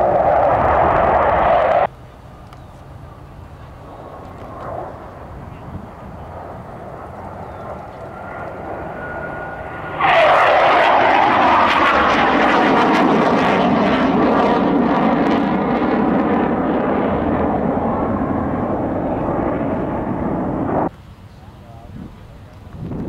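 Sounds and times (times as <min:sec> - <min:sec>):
jets flying low overhead: 0:00.0 - 0:23.0.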